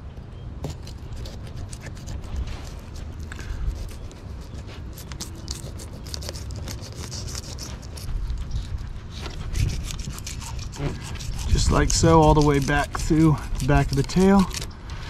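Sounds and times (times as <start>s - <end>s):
knife slicing through fish: 0.7s - 8.1s, 9.2s - 14.7s.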